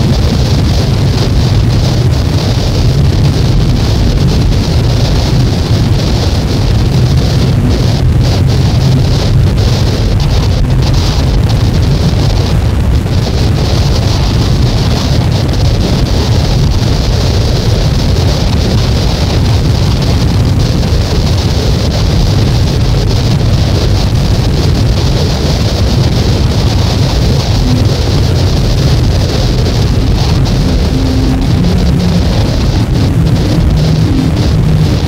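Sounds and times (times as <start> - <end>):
dense wall of noise: 0.0 - 35.0.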